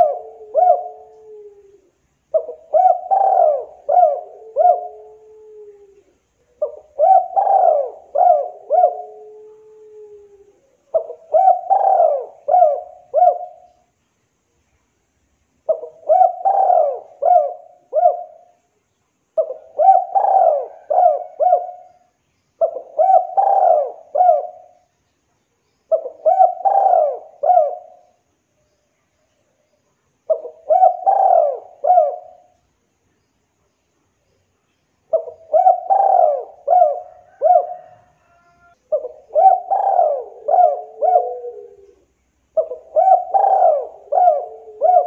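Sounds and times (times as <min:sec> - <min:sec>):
dove cooing: 0:00.0 - 0:13.8, 0:15.6 - 0:18.6, 0:19.4 - 0:24.9, 0:25.9 - 0:28.2, 0:30.3 - 0:32.6, 0:35.1 - 0:45.0.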